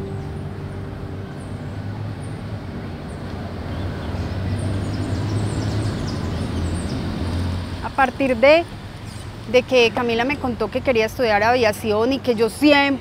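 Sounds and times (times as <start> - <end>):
electric car humming slowly: 0.0 - 11.1.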